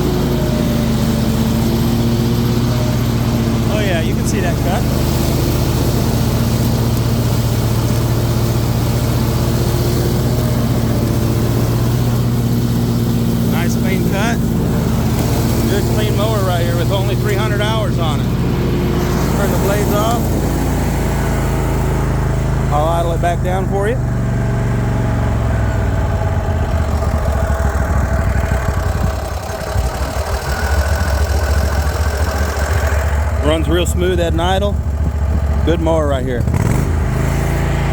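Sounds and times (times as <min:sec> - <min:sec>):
lawn mower engine running: 0:00.0 - 0:37.9
mower blades cutting grass: 0:00.0 - 0:37.9.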